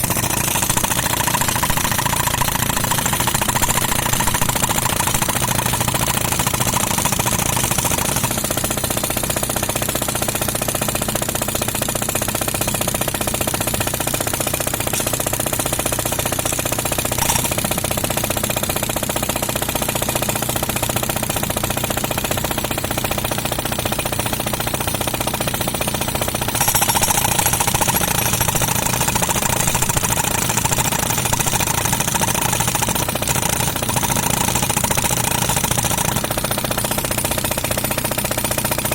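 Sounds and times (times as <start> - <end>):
air compressor engine running: 0.0 - 38.9
concrete breaker hammering: 0.0 - 38.9.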